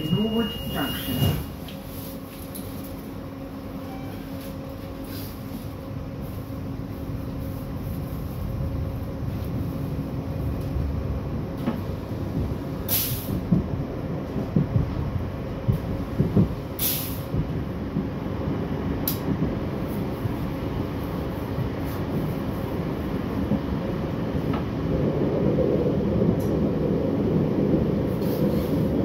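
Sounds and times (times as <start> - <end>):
tram hum: 0.0 - 29.0
wheels rumbling on rails: 0.0 - 29.0.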